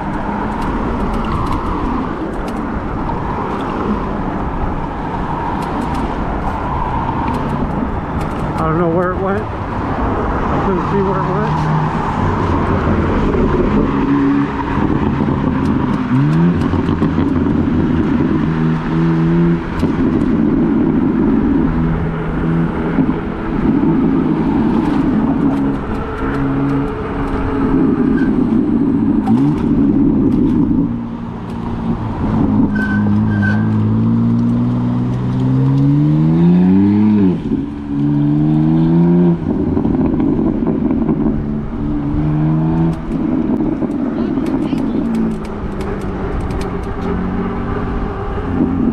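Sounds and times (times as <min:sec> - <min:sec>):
wind noise: 0:00.0 - 0:48.9.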